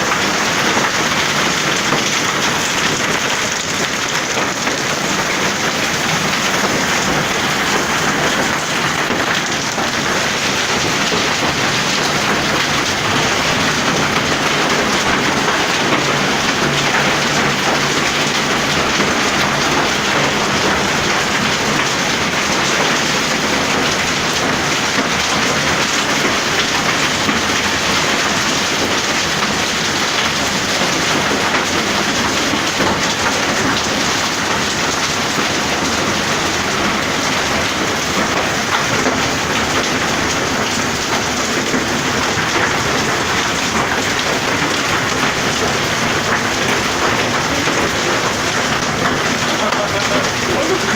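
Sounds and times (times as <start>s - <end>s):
hail and heavy rain pelting: 0.0s - 50.9s.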